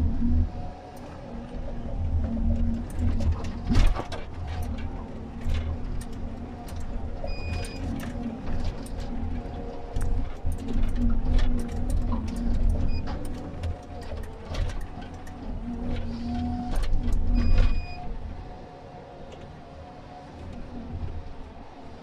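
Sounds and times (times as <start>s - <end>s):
diesel engine drone in cab: 0.0s - 22.0s.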